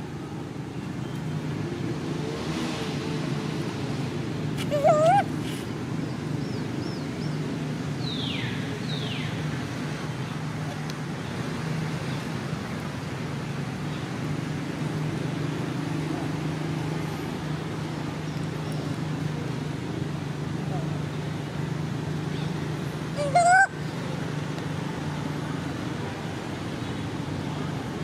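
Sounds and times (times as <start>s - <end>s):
distant road traffic hum: 0.0s - 28.0s.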